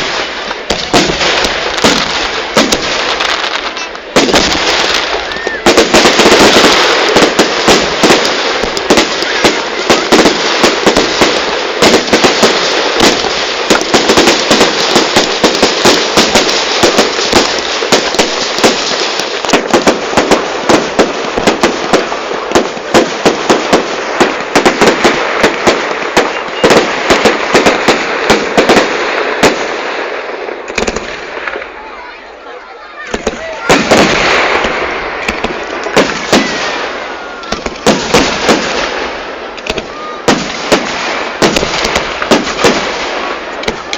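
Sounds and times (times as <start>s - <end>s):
fireworks cracks and bangs: 0.0s - 43.9s.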